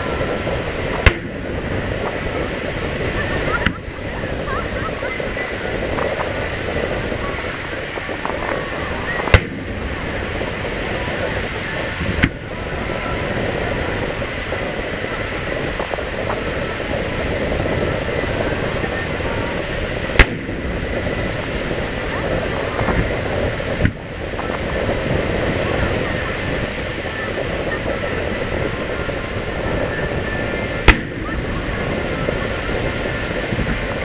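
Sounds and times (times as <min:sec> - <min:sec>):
crowd voices: 0:00.0 - 0:34.0
firework booms: 0:00.0 - 0:34.0.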